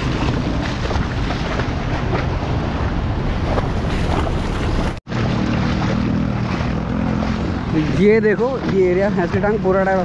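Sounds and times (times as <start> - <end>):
low engine hum: 0.0 - 10.0
water splashing: 0.0 - 10.0.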